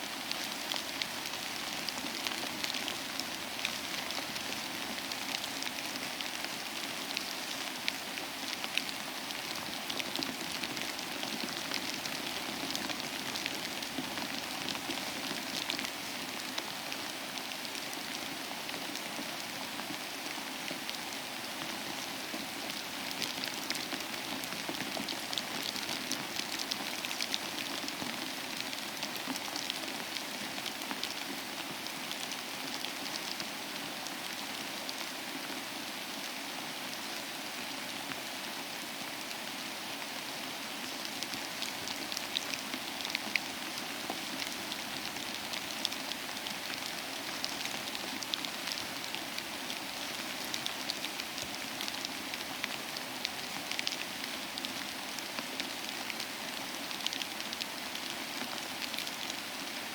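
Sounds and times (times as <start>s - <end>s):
steady rain hiss: 0.0s - 59.9s
raindrops ticking on a surface: 0.1s - 35.6s, 40.1s - 59.9s.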